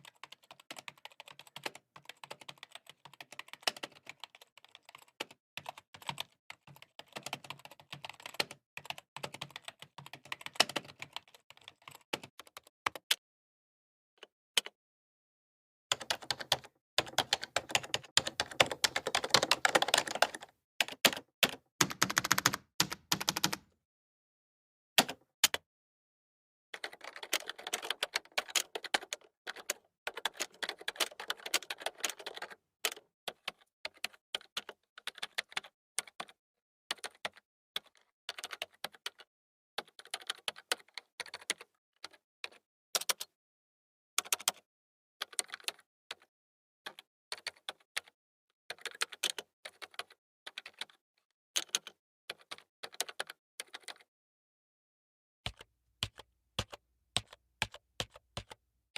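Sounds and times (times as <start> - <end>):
computer keyboard typing: 0.0 - 13.2, 15.9 - 23.7, 26.8 - 43.3, 44.2 - 46.3, 48.7 - 51.0, 51.6 - 54.1, 55.5 - 58.6.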